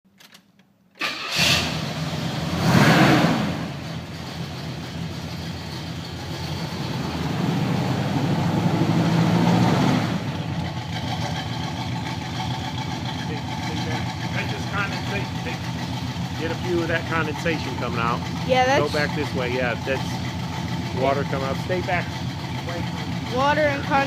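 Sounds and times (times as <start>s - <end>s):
car engine idling and revving: 1.1s - 24.0s.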